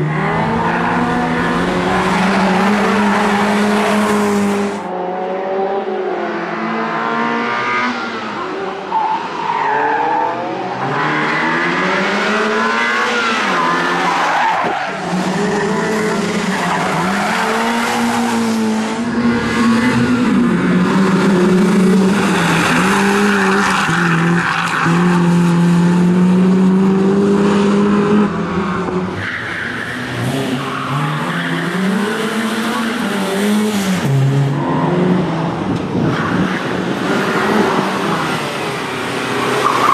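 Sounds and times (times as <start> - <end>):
tyres squealing and skidding: 0.0 - 4.8, 8.9 - 25.7, 28.3 - 35.3, 35.9 - 39.9.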